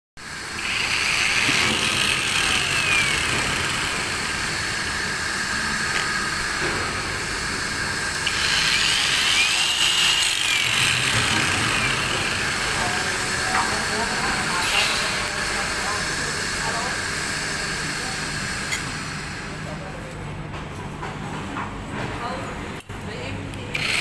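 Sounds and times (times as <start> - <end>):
electric cutter motor whine: 0.3 - 19.5, 23.8 - 24.0.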